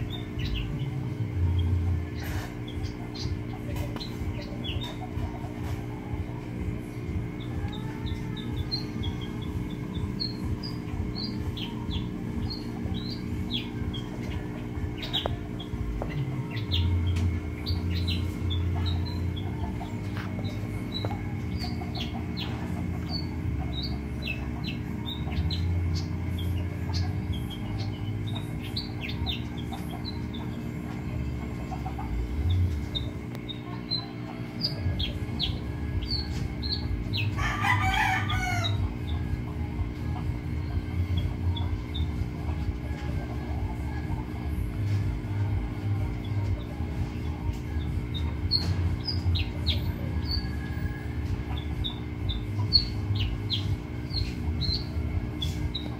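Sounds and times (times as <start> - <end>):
small birds chirping: 0.0 - 55.9
steady low hum: 0.0 - 55.9.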